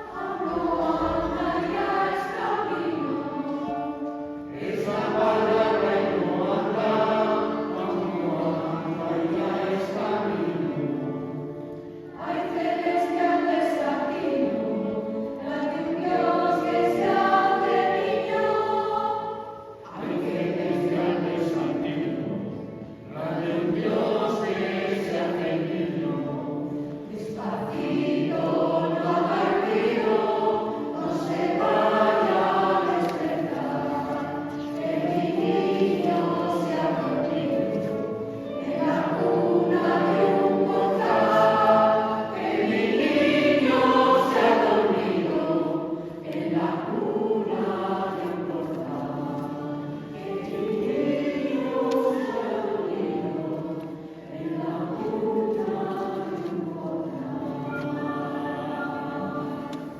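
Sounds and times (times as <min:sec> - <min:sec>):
choir singing a carol: 0:00.0 - 0:59.9.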